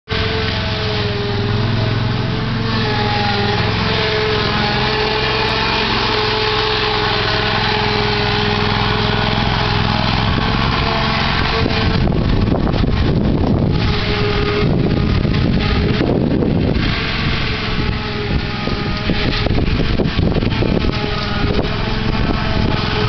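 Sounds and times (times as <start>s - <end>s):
mower engine running: 0.1s - 23.0s.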